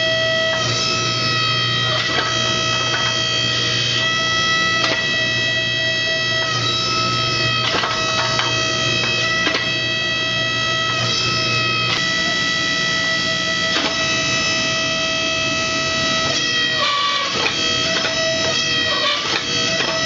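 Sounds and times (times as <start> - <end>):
droning background music: 0.0 - 20.0.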